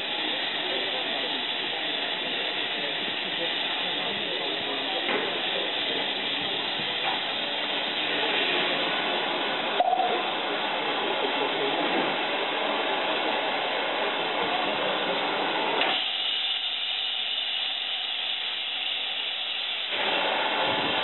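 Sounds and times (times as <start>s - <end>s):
steam hissing: 0.0s - 21.0s.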